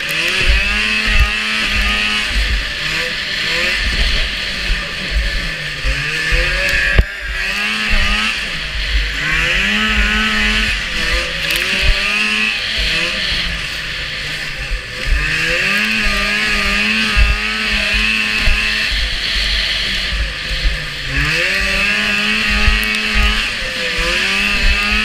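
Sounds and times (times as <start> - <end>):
low thumps: 0.0 - 13.6, 14.4 - 25.0
hiss of track on snow: 0.0 - 25.0
snowmobile engine revving: 0.0 - 25.0.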